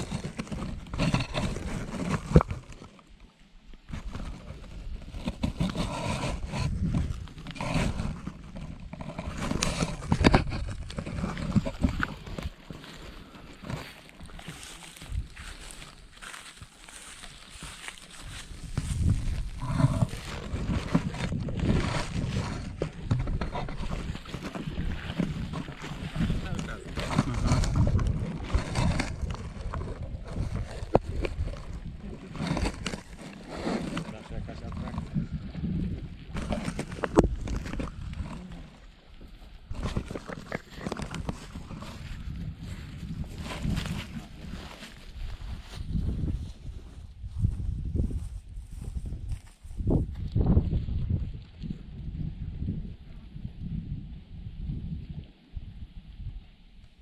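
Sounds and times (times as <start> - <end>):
wind buffeting microphone: 3.9 - 57.0.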